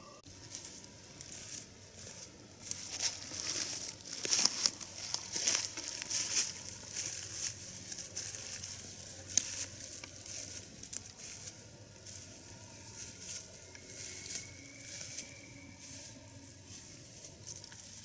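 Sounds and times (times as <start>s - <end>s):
footsteps crunching dry leaves: 0.2s - 18.0s.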